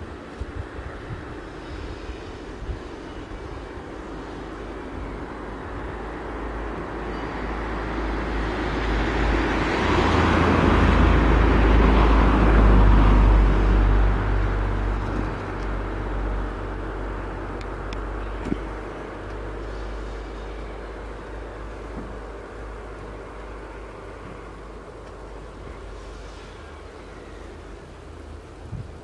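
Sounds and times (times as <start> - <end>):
motor vehicle passing by: 0.8 - 27.5.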